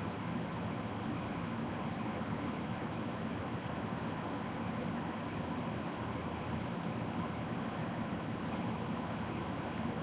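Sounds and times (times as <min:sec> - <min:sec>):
steady hiss with low rumble: 0:00.0 - 0:10.0.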